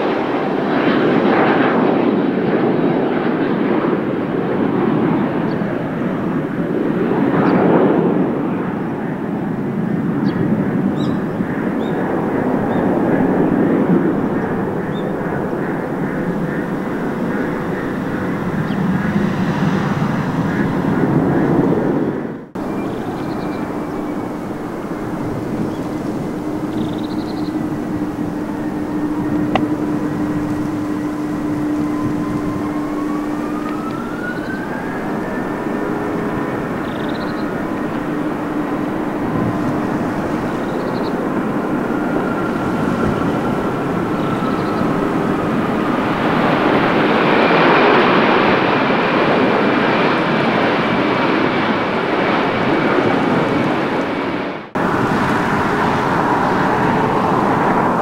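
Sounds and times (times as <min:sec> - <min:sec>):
jet airliner engine roar: 0:00.0 - 0:58.0.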